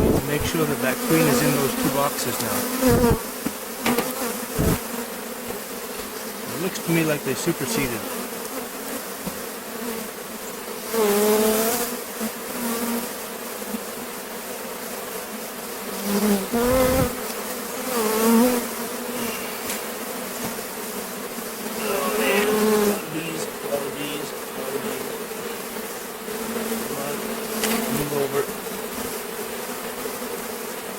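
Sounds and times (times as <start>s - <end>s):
bees buzzing close: 0.0s - 30.9s
bees droning: 0.0s - 30.9s.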